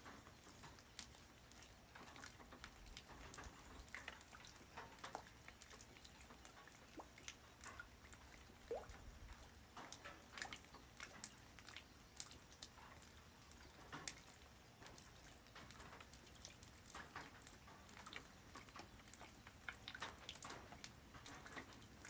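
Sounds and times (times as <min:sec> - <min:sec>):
light rain dripping on ground: 0:00.0 - 0:22.0.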